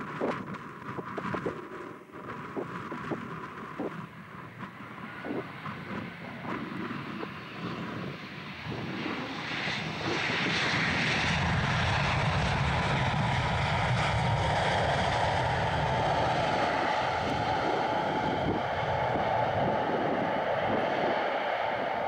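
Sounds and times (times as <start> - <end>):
jet engine rumble and hiss: 0.0 - 22.0.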